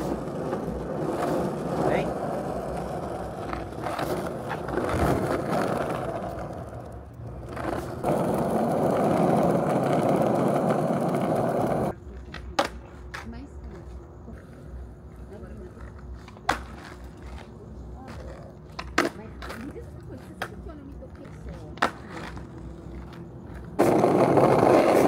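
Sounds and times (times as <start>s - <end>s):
skateboard wheels rolling on pavement: 0.0s - 25.0s.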